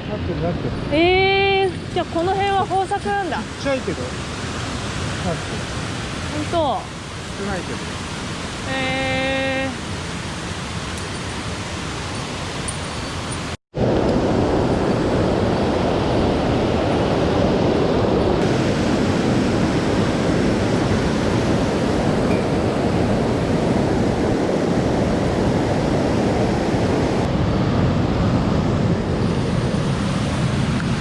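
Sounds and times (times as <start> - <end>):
whitewater rushing in stream: 1.7 - 31.0.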